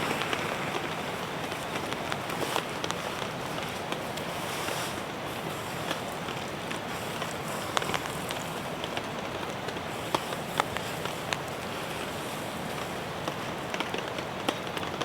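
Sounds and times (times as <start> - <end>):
raindrops tapping: 0.0 - 15.0
steady rain falling: 0.0 - 15.0.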